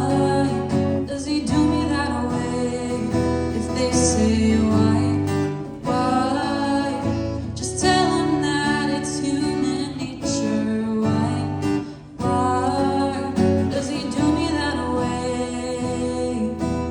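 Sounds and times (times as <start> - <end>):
acoustic guitar strumming: 0.0 - 16.9
woman singing: 0.0 - 16.9.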